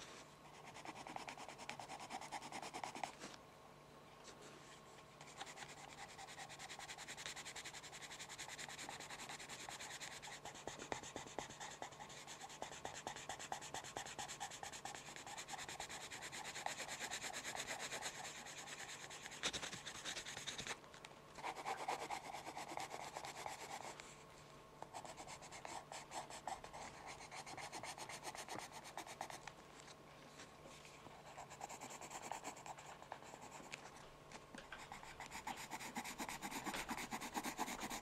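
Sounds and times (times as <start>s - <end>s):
pencil scratching on paper: 0.5s - 3.2s, 5.3s - 20.7s, 21.4s - 23.9s, 24.9s - 29.4s, 31.2s - 33.8s, 34.8s - 38.0s.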